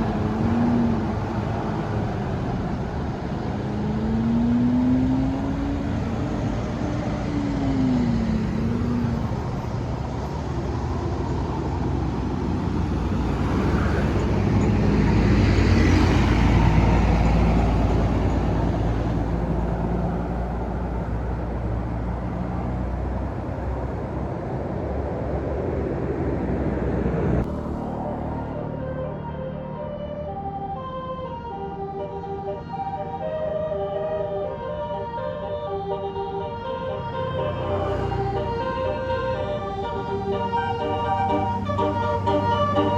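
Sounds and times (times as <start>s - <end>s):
large vehicle passing: 0.0s - 42.9s.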